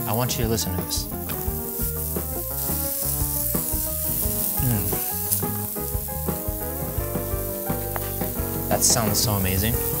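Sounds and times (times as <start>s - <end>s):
background music with bass: 0.0s - 10.0s
sausages sizzling on a griddle: 0.0s - 10.0s.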